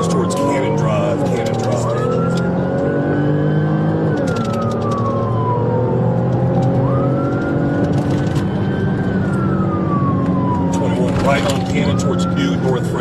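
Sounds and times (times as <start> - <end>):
car engine running: 0.0 - 13.0
police siren wailing: 0.0 - 13.0.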